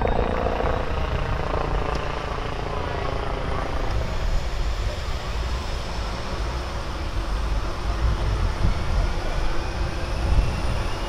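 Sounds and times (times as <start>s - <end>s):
helicopter rotor rumble: 0.0s - 11.0s
high turbine whine: 0.0s - 11.0s.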